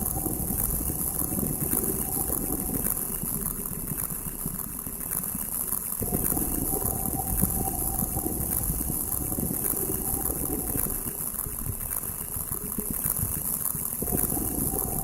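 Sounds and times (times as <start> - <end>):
low crackling synth texture: 0.0 - 15.0.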